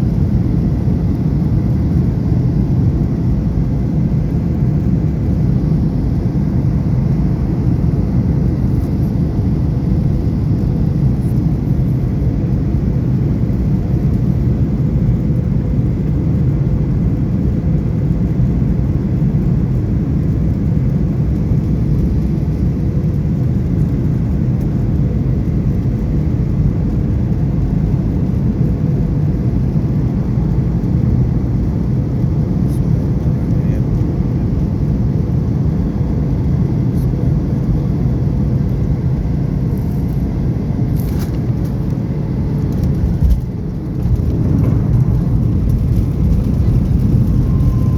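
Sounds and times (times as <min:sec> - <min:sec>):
faint constant hum: 0:00.0 - 0:47.9
jet engines and airflow rumble: 0:00.0 - 0:47.9.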